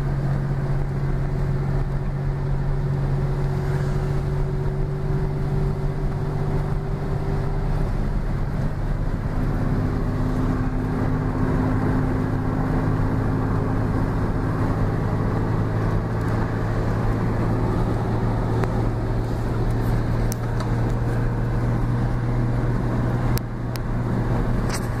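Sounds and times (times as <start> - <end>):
car engine drone: 0.0 - 25.0
road noise inside car: 0.0 - 25.0.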